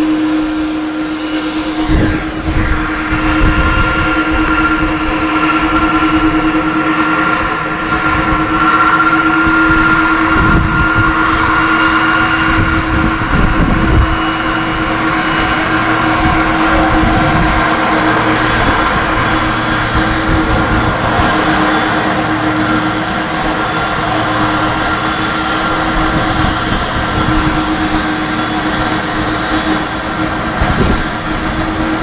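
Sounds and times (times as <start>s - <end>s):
high whine: 0.0s - 32.0s
jet engines roaring: 0.0s - 32.0s
low rumble: 1.0s - 32.0s.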